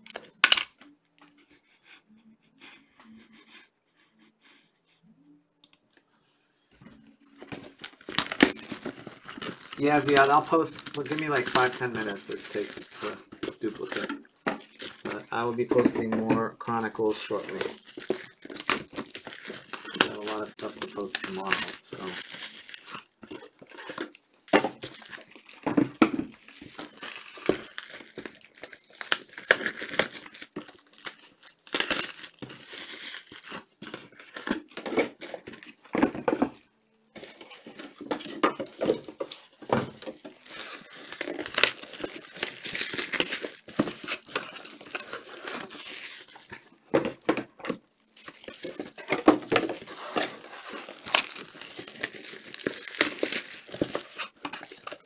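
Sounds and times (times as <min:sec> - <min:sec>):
card pack wrappers crinkling and tearing: 0:00.0 - 0:01.3, 0:07.4 - 0:55.0.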